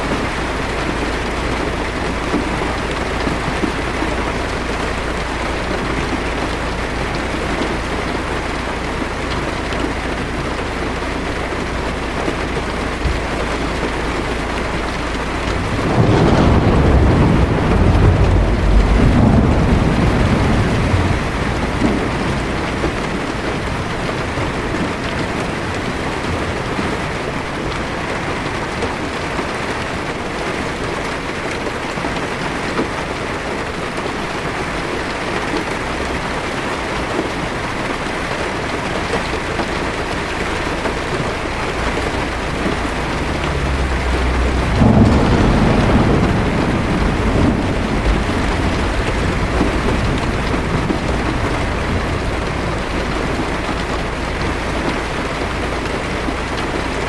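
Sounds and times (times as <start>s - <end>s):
heavy rain on car windshield: 0.0s - 57.0s
thunder crack and rumble: 0.0s - 57.0s.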